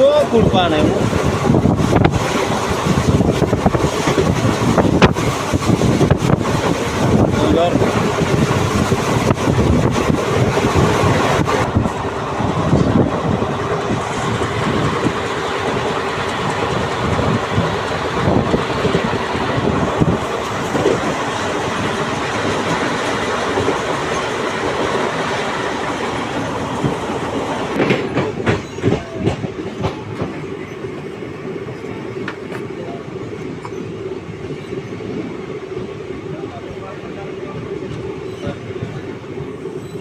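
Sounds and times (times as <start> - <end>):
train wheels clattering on rails: 0.0 - 36.0.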